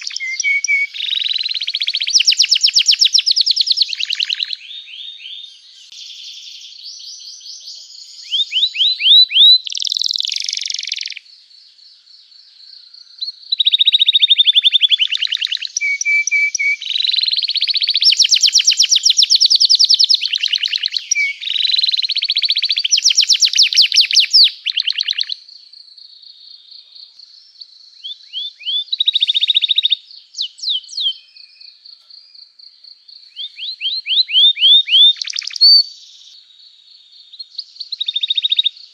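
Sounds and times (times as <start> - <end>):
canary singing: 0.0 - 11.2, 13.2 - 25.4, 28.0 - 31.6, 33.3 - 36.4, 37.4 - 38.9.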